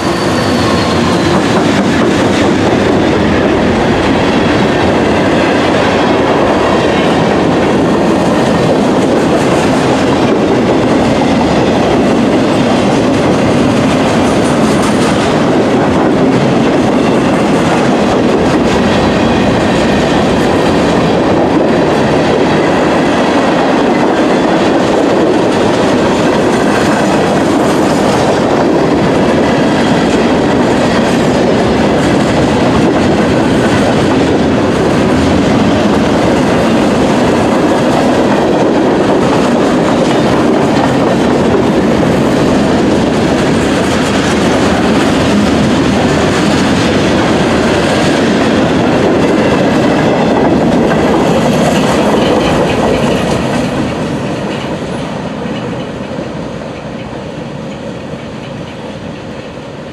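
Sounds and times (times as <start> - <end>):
freight train rumbling on rails: 0.0 - 59.9.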